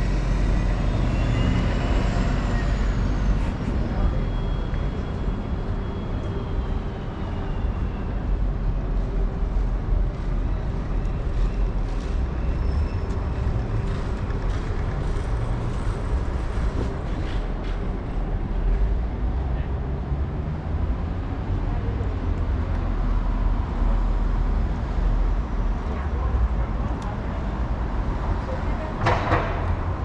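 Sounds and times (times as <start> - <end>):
street traffic rumble: 0.0 - 30.0.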